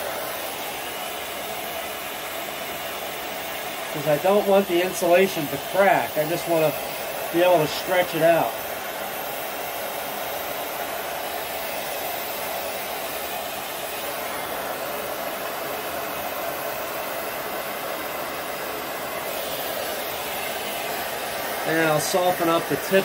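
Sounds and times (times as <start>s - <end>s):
heat gun blowing air: 0.0s - 23.0s.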